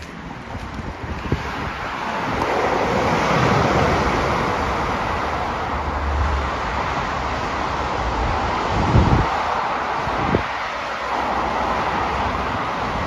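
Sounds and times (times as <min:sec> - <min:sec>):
train rumble and rail noise: 0:00.0 - 0:13.0
wind noise on microphone: 0:00.0 - 0:13.0.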